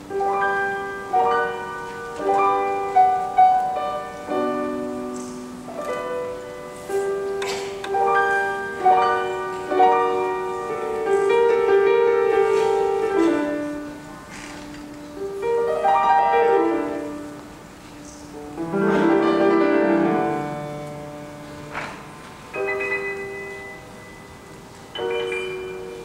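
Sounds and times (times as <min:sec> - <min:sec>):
slow lyrical piano: 0:00.0 - 0:26.0.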